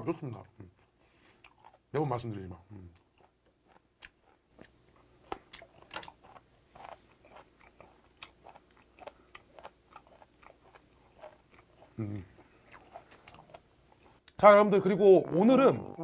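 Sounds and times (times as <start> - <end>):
person chewing with wet clicks: 0.2 - 1.9, 2.8 - 14.4.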